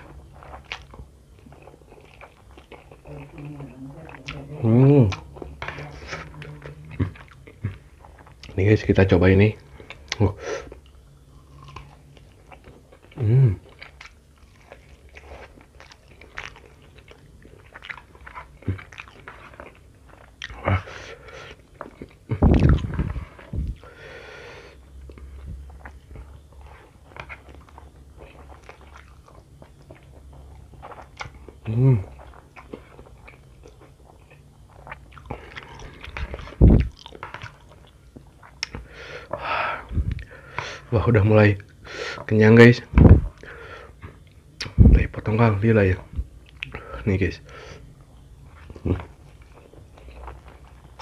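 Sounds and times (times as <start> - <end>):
man chewing food: 0.0 - 8.6, 9.6 - 40.9, 43.0 - 51.0.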